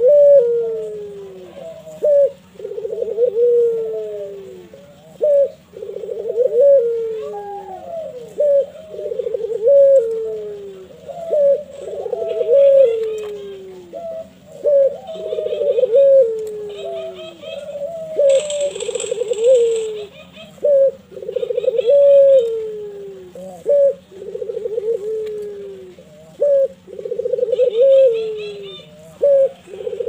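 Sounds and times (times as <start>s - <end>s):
dove cooing: 0.0s - 30.0s.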